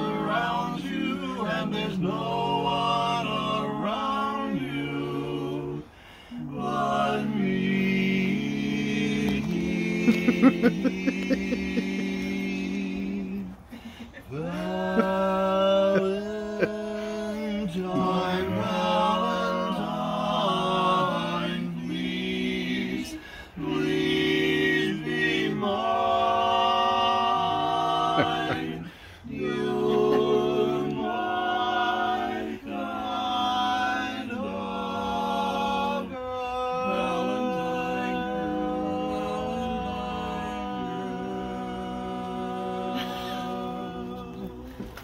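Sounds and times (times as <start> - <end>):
male vocal quartet singing: 0.0 - 45.0.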